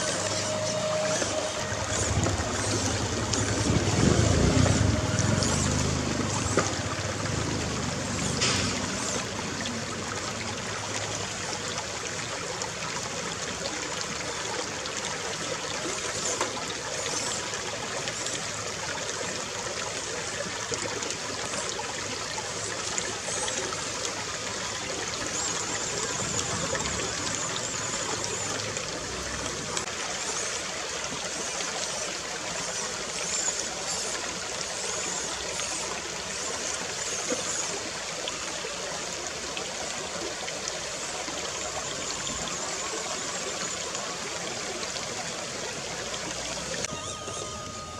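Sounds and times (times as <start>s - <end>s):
creek water trickling over stones: 0.0s - 47.9s.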